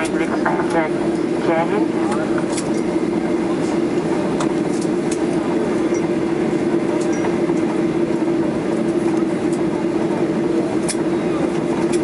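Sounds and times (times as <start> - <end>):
airliner engine drone: 0.0 - 12.0.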